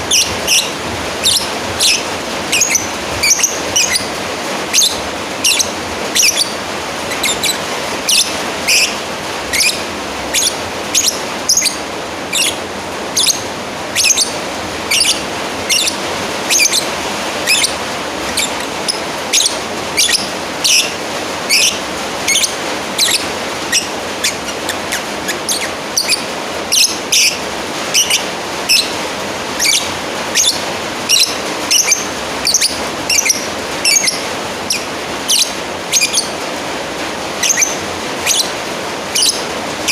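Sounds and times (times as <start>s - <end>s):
bird shrill calls: 0.0s - 29.0s, 29.6s - 36.4s, 37.4s - 39.9s.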